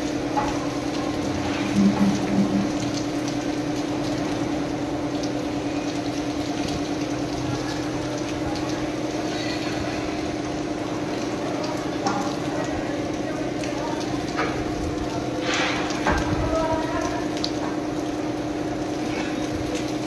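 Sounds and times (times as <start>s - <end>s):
heavy rain on pavement: 0.0s - 20.0s.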